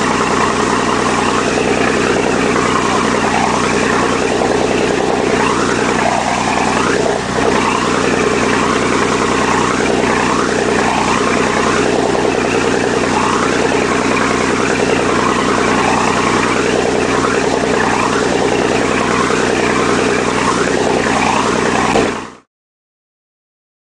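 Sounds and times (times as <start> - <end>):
boat engine humming: 0.0 - 22.4
water rushing in wake: 0.0 - 22.4.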